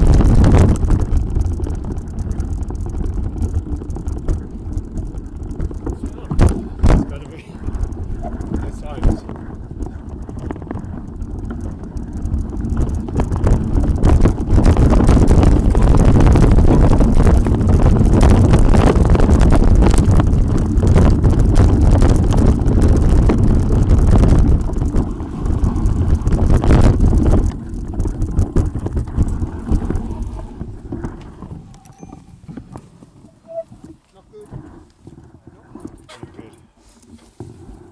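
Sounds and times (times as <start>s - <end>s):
mountain bike rattling and knocking: 0.0s - 37.9s
wind buffeting microphone: 0.0s - 37.9s.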